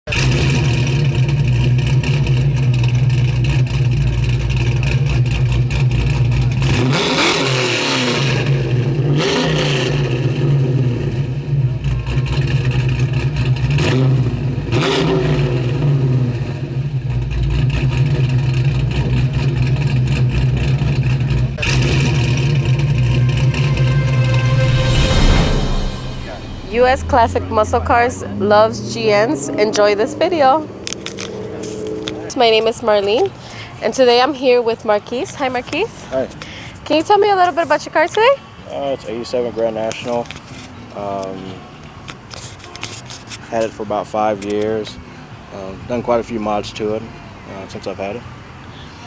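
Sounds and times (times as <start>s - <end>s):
car engine idling and revving: 0.0s - 49.0s.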